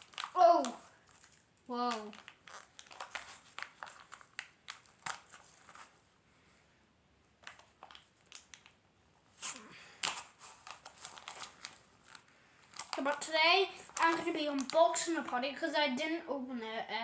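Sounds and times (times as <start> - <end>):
packaging crinkling: 0.0 - 6.1, 7.4 - 15.4.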